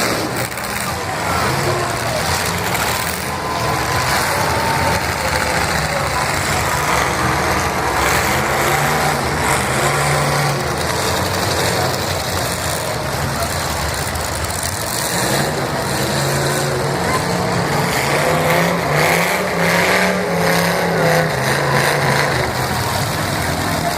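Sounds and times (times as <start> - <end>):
car engines revving: 0.0 - 23.9
voices: 0.0 - 23.9.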